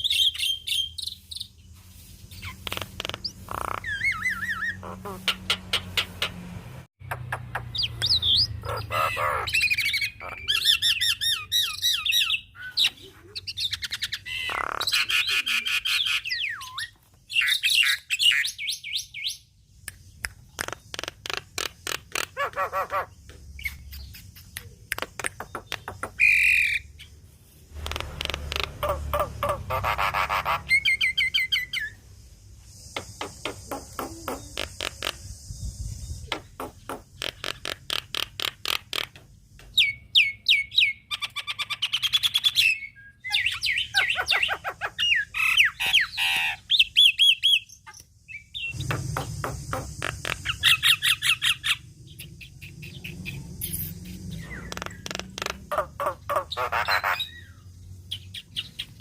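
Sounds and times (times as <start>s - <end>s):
myna bird singing: 0.0s - 59.0s.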